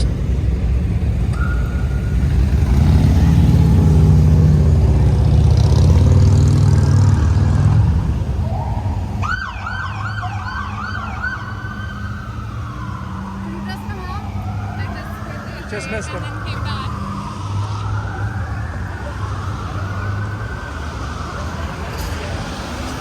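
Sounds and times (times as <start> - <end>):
vehicle engines rumbling: 0.0 - 23.0
police siren yelping: 1.3 - 4.6, 7.3 - 22.8.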